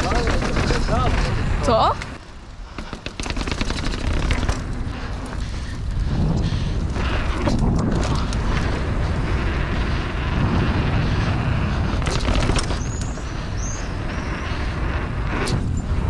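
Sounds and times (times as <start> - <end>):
bike tyres rolling: 0.0 - 16.0
wind rushing over microphone: 0.0 - 16.0.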